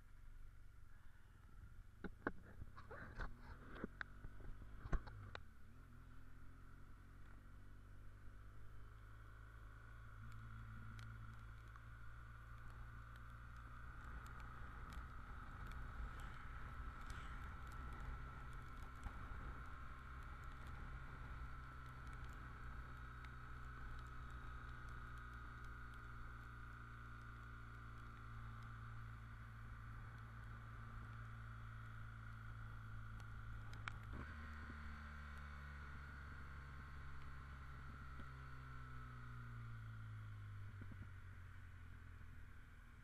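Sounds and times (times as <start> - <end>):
motorcycle engine hum: 0.0 - 43.0
light ticks: 2.0 - 5.5, 8.9 - 42.6.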